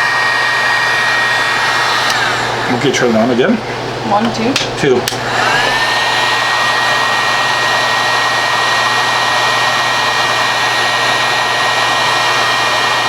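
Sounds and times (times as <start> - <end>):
heat gun blowing hiss: 0.0 - 3.2, 5.0 - 13.0.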